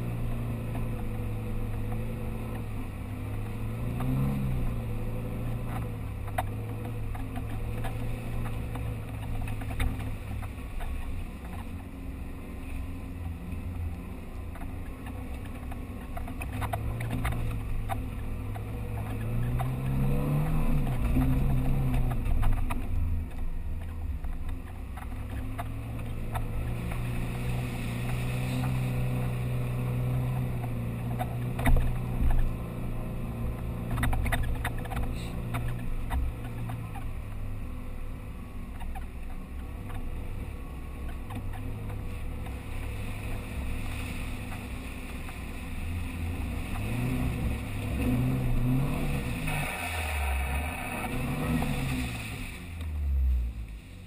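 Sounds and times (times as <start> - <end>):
vehicle engine under load: 0.0 - 54.0.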